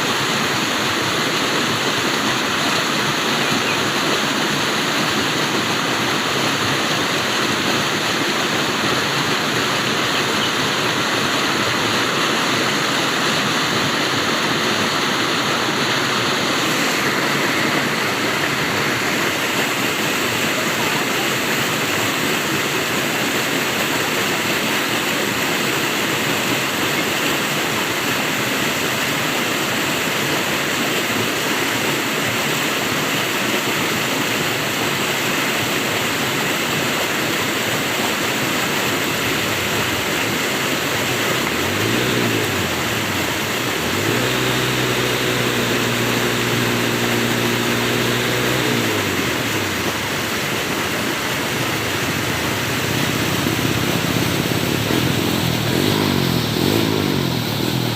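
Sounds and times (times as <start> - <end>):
water rushing: 0.0 - 57.9.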